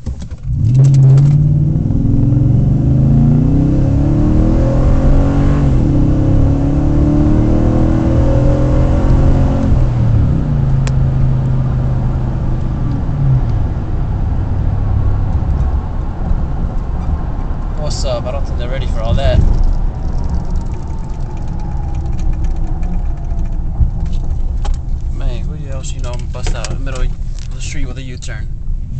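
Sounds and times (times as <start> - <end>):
truck engine accelerating: 0.4 - 28.0.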